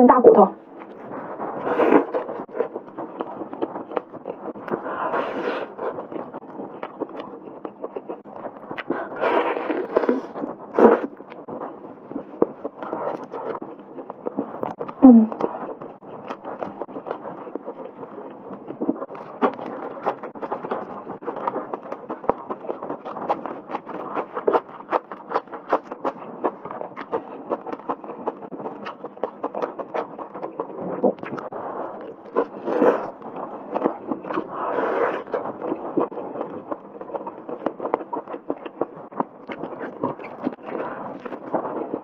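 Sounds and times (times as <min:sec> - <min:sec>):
chewing meat with wet smacking: 0:01.6 - 0:42.0.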